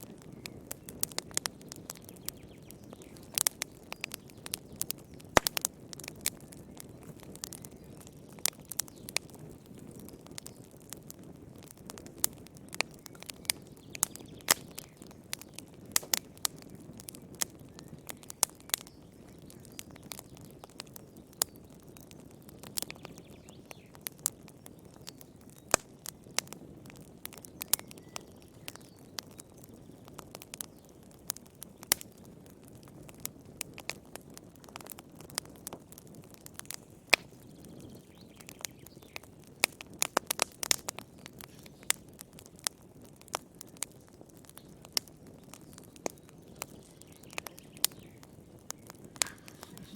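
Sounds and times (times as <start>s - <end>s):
fire crackling and popping: 0.0s - 49.9s.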